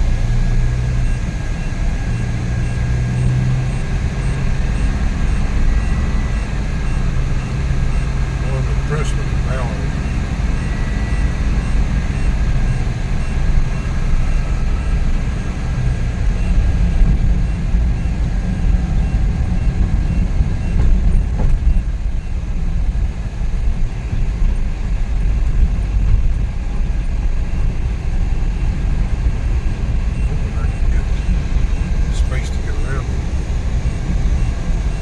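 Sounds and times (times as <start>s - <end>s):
road noise inside cabin: 0.0s - 35.0s
van engine rumble: 0.0s - 35.0s.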